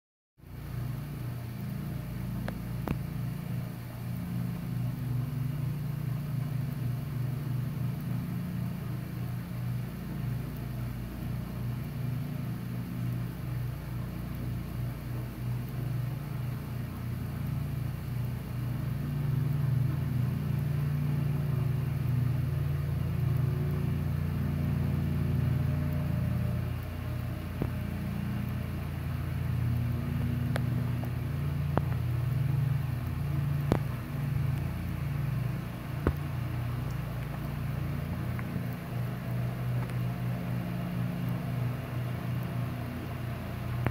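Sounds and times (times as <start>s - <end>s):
low motor rumble with drone: 0.4s - 43.9s.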